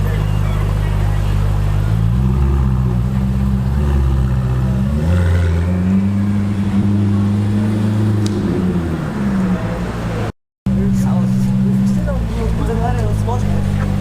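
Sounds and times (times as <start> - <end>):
sports car engine running: 0.0 - 14.0.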